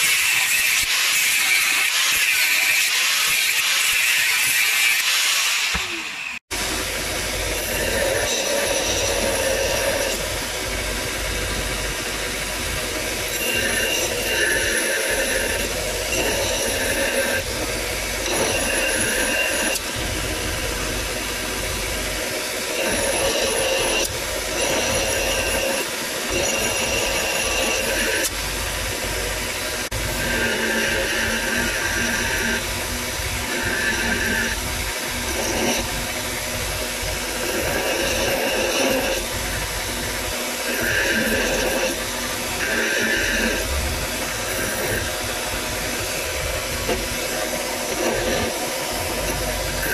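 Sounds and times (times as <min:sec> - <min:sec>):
belt sander running: 0:00.0 - 0:49.9
steel grinding on abrasive belt: 0:00.0 - 0:49.9.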